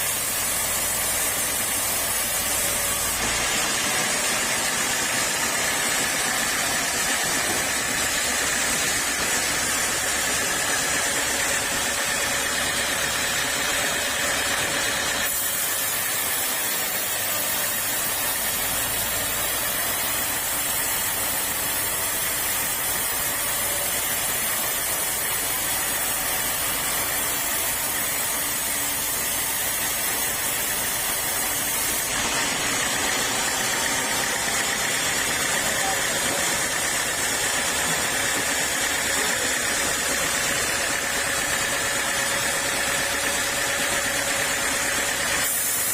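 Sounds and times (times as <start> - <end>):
motor-driven saw hissing and humming: 0.0 - 45.9.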